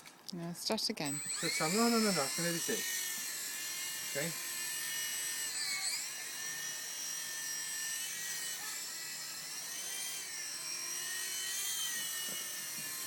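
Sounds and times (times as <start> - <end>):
small helicopter motor whining: 1.0 - 13.0.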